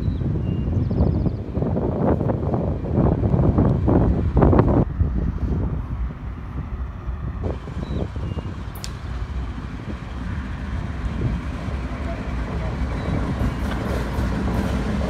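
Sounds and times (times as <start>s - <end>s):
diesel locomotive engines rumbling: 0.0s - 15.0s
train wheels on rail: 1.7s - 15.0s.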